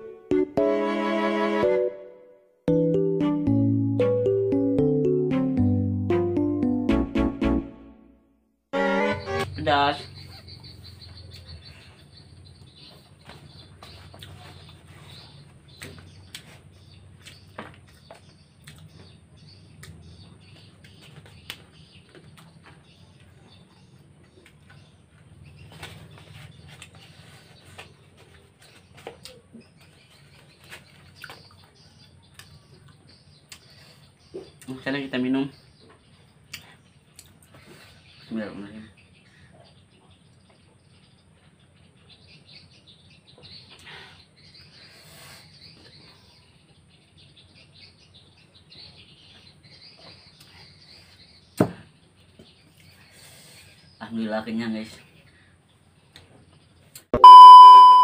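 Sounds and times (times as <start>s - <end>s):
small birds chirping: 9.1s - 58.0s.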